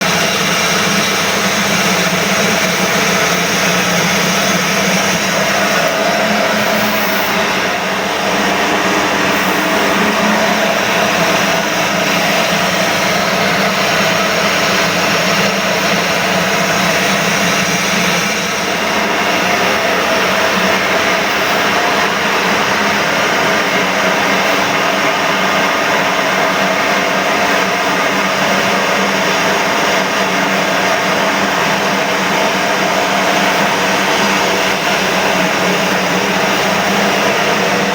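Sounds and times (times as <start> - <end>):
milling machine whirring: 0.0 - 37.9.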